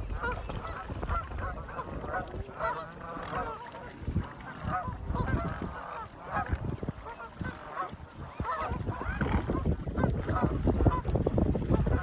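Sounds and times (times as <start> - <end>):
swans honking: 0.0 - 11.1.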